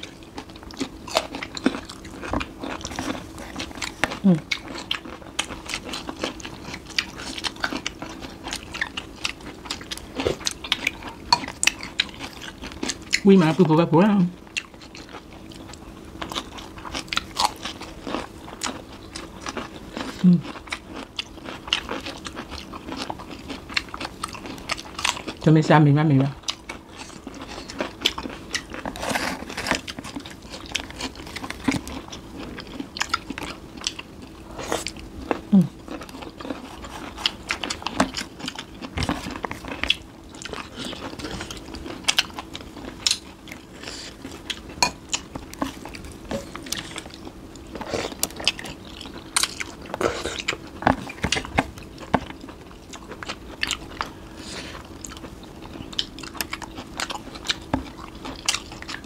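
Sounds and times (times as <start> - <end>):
people chewing food: 0.0 - 59.0
steady low hum: 0.0 - 59.0.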